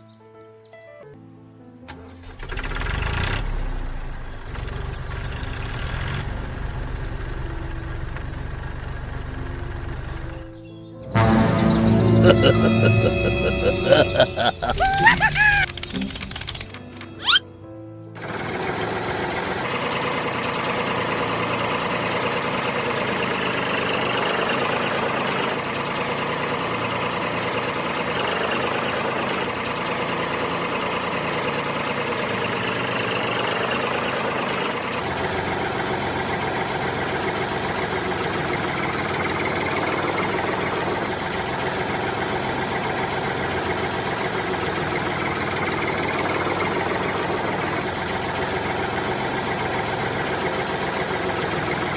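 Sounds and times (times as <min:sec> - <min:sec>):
engine idling: 0:02.2 - 0:10.6, 0:18.2 - 0:51.9.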